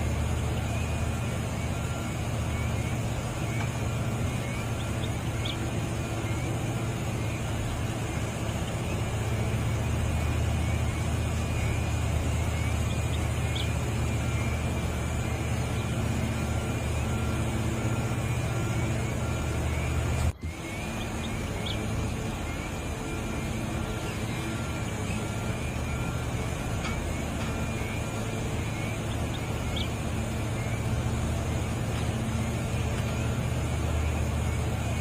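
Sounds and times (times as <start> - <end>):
heavy diesel engine droning: 0.0 - 35.0.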